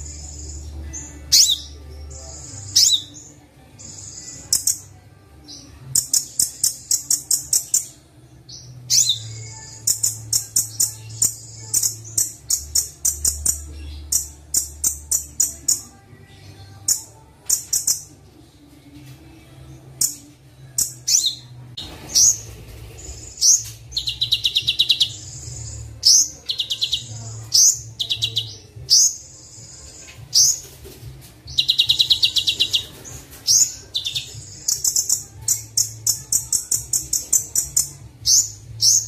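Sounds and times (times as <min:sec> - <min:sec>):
songbird chirps and trills: 0:00.0 - 0:39.0.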